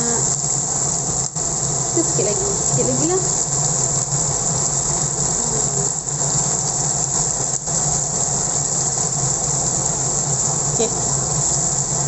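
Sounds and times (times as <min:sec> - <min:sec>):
chili paste sizzling in oil: 0:00.0 - 0:12.0.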